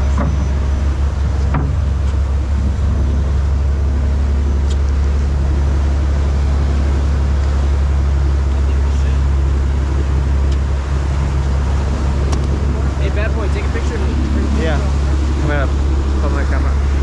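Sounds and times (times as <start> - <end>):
boat engine droning: 0.0 - 17.0
water and wind noise: 0.0 - 17.0.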